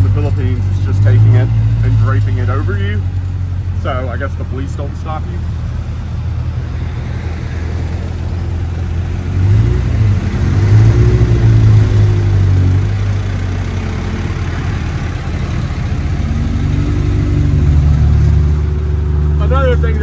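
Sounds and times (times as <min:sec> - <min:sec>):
road and wind noise: 0:00.0 - 0:20.0
vehicle engine pulling: 0:00.0 - 0:20.0.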